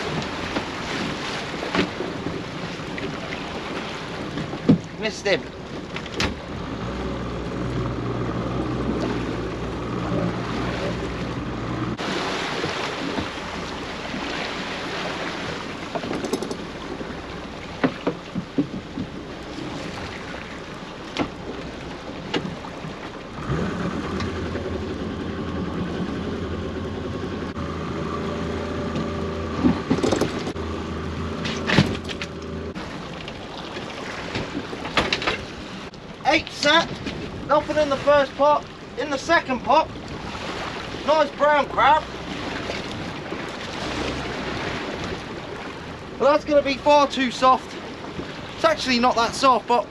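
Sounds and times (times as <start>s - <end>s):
boat motor running: 0.0s - 49.9s
water noise: 0.0s - 49.9s
wind: 0.0s - 49.9s.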